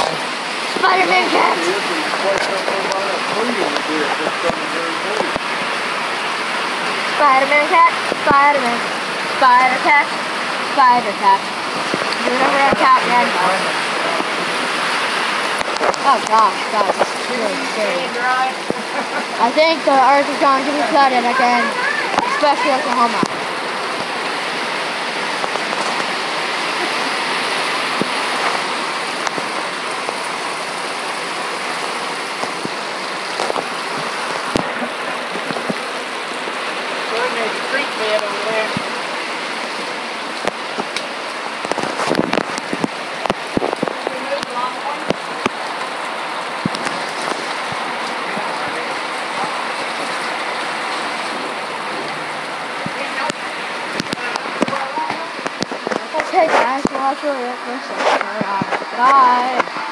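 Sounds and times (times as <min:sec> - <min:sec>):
heavy rain pouring: 0:00.0 - 0:59.9
running floodwater: 0:00.0 - 0:59.9
water dripping and splashing: 0:00.0 - 0:59.9.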